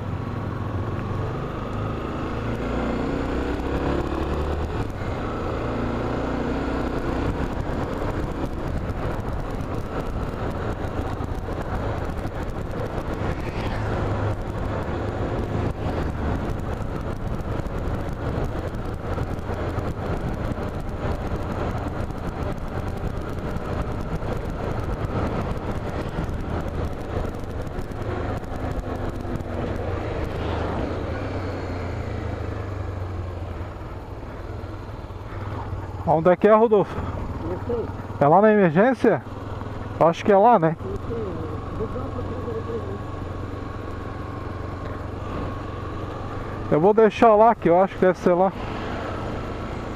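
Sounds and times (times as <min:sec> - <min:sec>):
motorcycle engine running: 0:00.0 - 0:49.9
road noise: 0:00.0 - 0:49.9.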